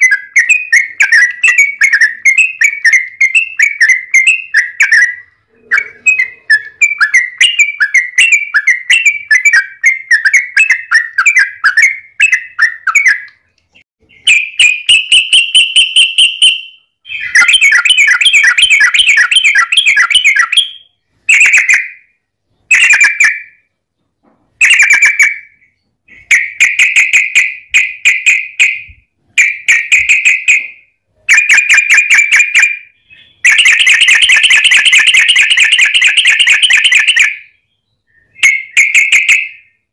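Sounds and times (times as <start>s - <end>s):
bulbul fast chattering song: 0.0s - 13.5s, 14.1s - 22.0s, 24.6s - 37.4s.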